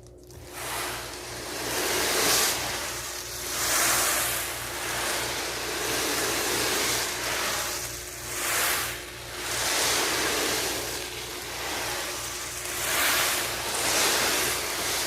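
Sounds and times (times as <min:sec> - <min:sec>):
corn kernels rolling in box: 0:00.1 - 0:15.0.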